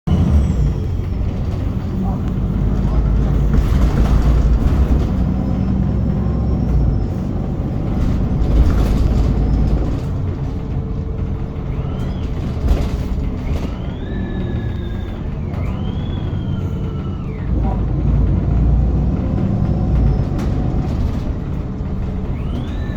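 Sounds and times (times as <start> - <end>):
bus differential whining: 0.0 - 22.9
bus rumbling: 0.0 - 22.9.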